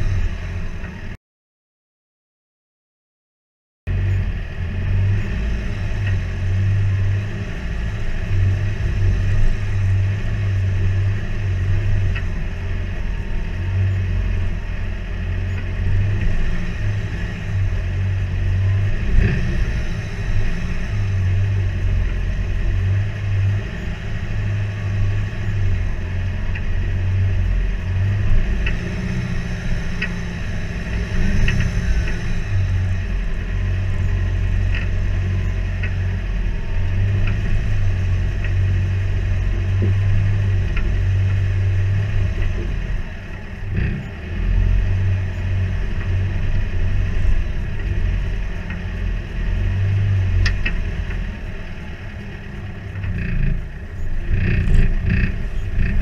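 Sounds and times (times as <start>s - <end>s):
truck engine running at low revs: 0.0s - 1.2s, 3.9s - 56.0s.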